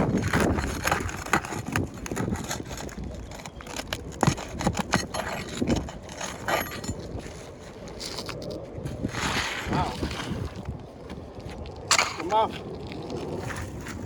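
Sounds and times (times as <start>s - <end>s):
tool scraping under roof shingles: 0.0s - 14.0s.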